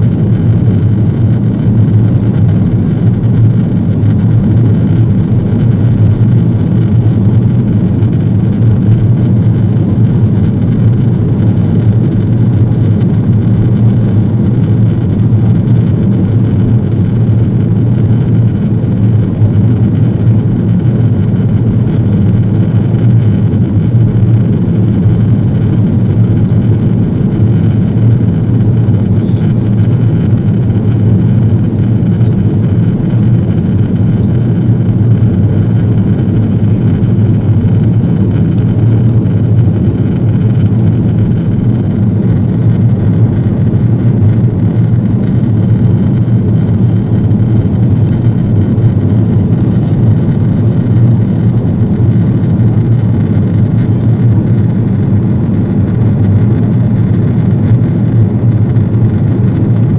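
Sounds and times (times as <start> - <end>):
airplane cabin engine noise: 0.0 - 59.9.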